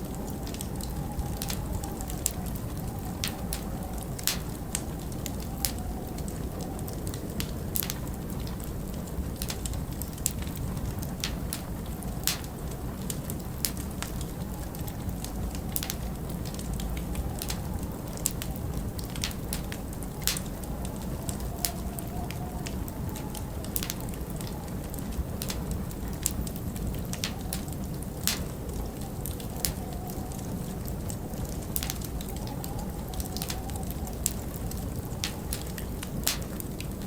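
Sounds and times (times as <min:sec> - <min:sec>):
wind rumbling and howling: 0:00.0 - 0:37.0
wood fire crackling and popping: 0:00.0 - 0:37.0.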